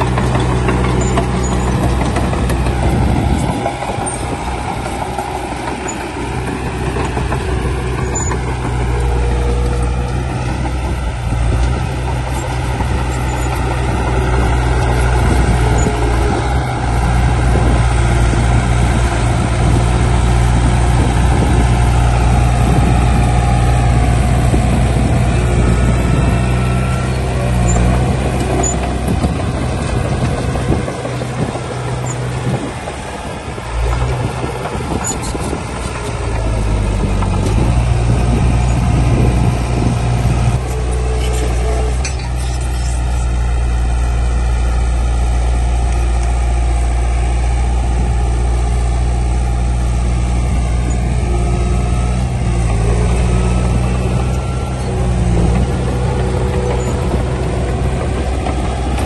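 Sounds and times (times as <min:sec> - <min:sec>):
diesel machinery engines droning: 0:00.0 - 0:59.0.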